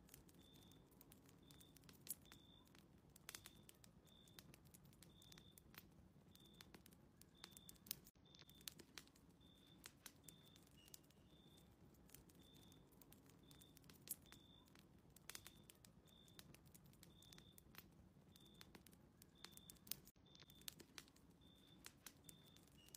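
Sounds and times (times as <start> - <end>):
wood fire crackling and popping: 0.0 - 22.9.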